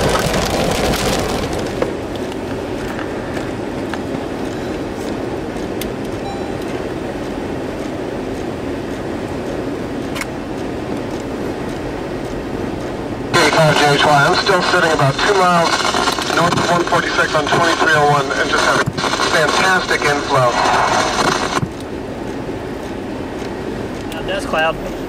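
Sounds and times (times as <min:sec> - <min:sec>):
road and wind noise in vehicle: 0:00.0 - 0:25.0.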